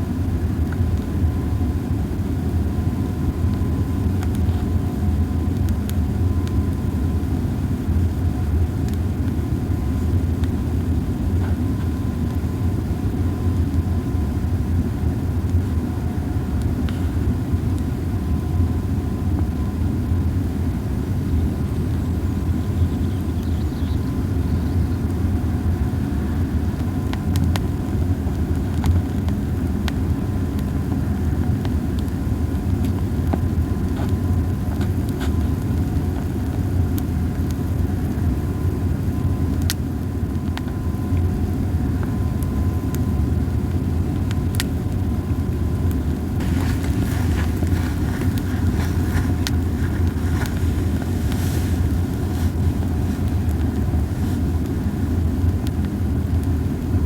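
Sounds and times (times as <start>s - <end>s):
campfire crackling: 0.0s - 57.0s
low fire rumble: 0.0s - 57.0s.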